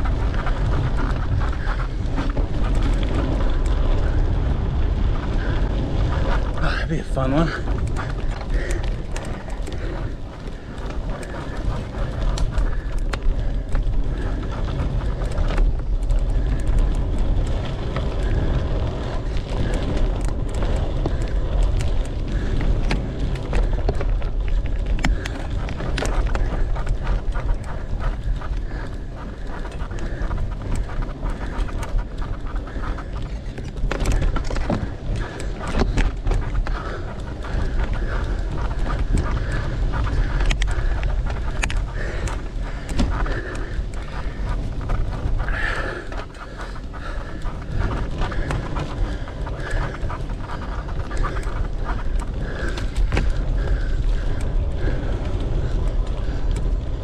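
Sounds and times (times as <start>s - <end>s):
bike rattling over bumps: 0.0s - 57.0s
wind buffeting microphone: 0.0s - 57.0s.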